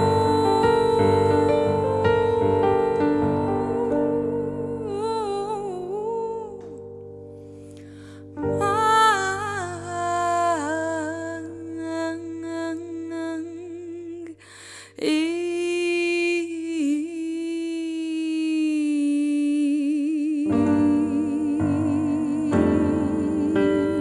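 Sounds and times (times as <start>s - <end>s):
woman singing with vibrato: 0.0s - 6.8s, 8.2s - 24.0s
piano chords: 0.0s - 16.4s, 20.4s - 24.0s.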